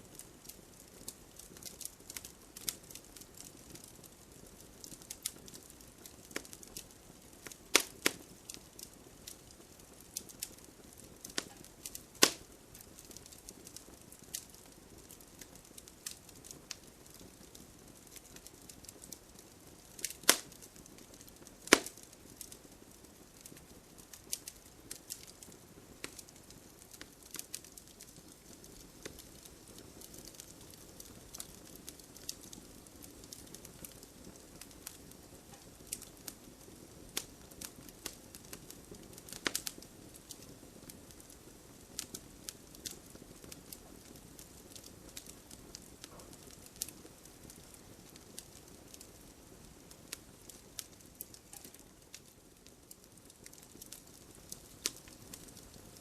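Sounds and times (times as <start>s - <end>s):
fire hiss: 0.0s - 52.3s
wood fire crackling: 0.0s - 56.0s
loud pops of fire: 0.1s - 56.0s.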